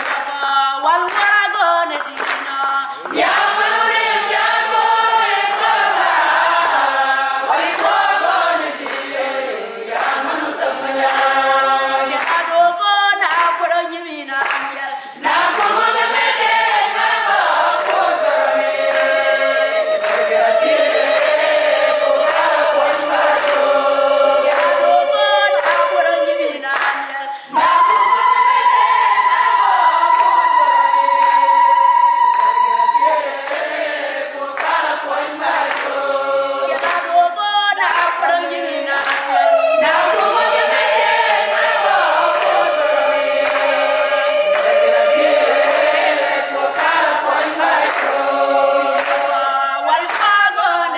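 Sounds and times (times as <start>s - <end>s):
hand claps: 0.0s - 50.7s
women singing in harmony: 0.0s - 50.9s.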